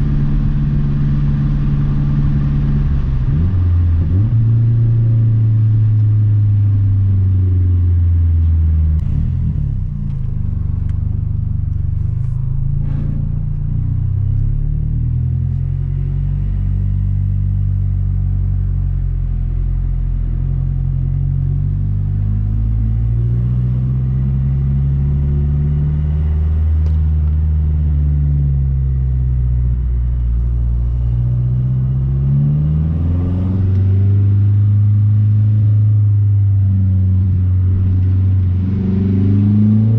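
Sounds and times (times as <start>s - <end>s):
turbocharged car engine: 0.0s - 39.9s.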